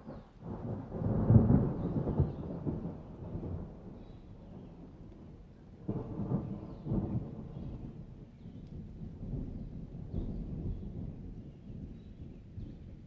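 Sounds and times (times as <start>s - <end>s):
thunder rumbling: 0.1s - 13.0s.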